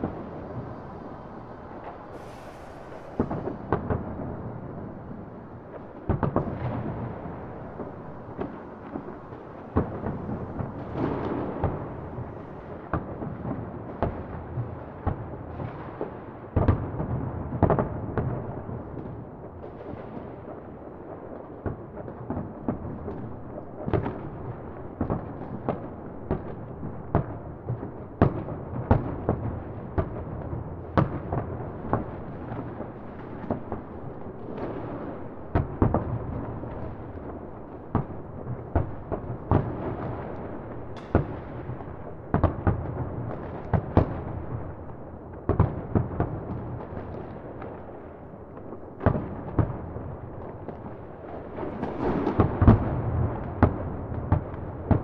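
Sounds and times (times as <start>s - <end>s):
firecrackers banging: 0.0s - 16.2s, 22.5s - 55.0s
rumble of distant explosions: 0.0s - 55.0s.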